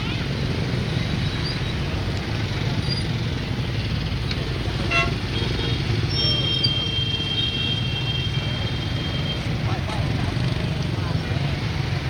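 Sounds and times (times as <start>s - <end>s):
motorbike engines rumbling: 0.0s - 12.0s.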